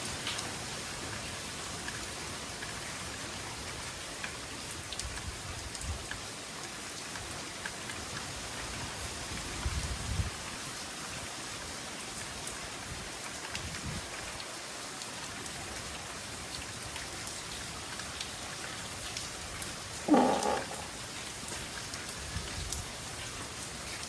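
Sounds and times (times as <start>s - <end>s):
heavy rain falling: 0.0s - 24.0s
raindrops ticking on surfaces: 0.0s - 24.0s.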